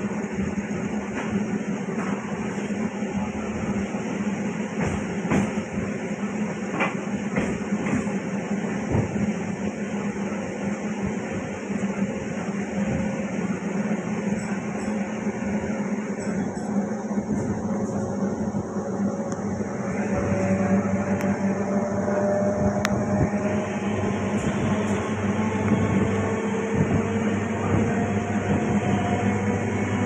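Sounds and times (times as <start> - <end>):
train rumble from inside coach: 0.0 - 30.0.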